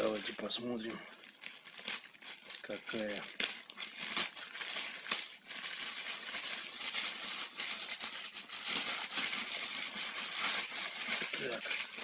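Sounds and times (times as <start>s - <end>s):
plastic mailer crinkling: 0.0s - 12.0s.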